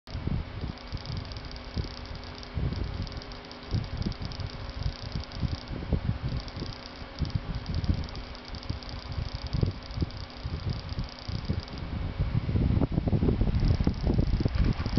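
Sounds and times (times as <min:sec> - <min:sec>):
small motor crackly buzz: 0:00.1 - 0:12.1, 0:13.2 - 0:14.9
low rumbles: 0:00.1 - 0:14.9.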